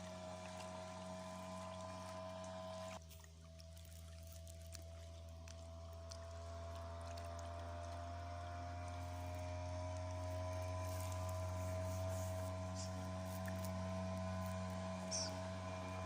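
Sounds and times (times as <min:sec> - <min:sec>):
outboard motor running: 0:00.0 - 0:16.0
water splashing and trickling: 0:00.0 - 0:16.0.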